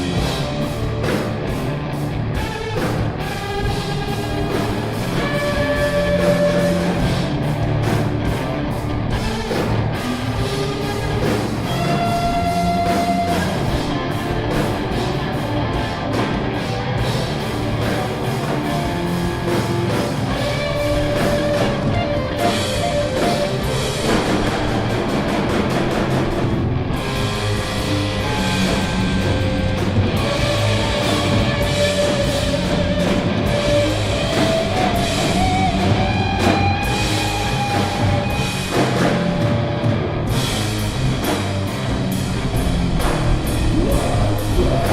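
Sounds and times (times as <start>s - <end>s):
distorted electric guitars: 0.0s - 44.9s
drum kit: 0.0s - 44.9s
held lead guitar notes: 0.0s - 44.9s.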